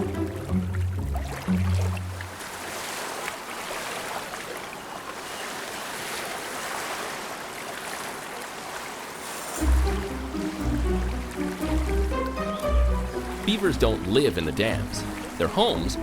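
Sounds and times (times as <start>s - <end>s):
flowing stream: 0.0s - 16.0s.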